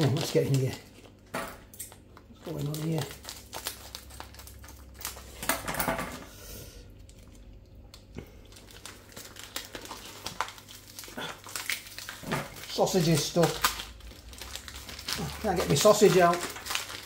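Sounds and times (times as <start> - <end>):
plastic wrapper crinkling: 0.0 - 5.6, 6.9 - 17.0.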